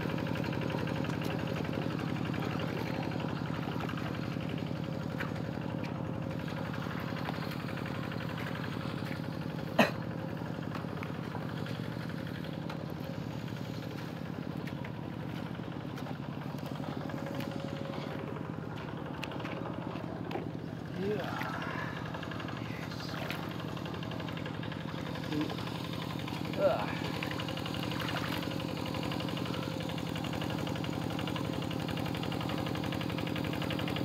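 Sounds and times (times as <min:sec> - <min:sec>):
hand tractor engine running: 0:00.0 - 0:34.0.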